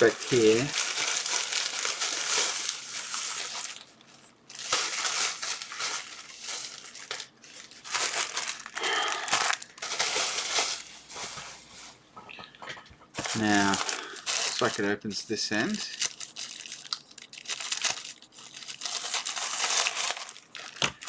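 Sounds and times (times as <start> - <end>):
parcel packaging crinkling: 0.0 - 21.0.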